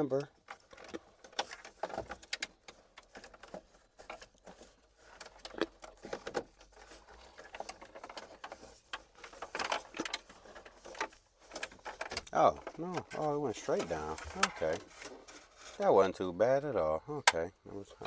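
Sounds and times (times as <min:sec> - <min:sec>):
cables rustling behind plastic panels: 0:00.0 - 0:16.2.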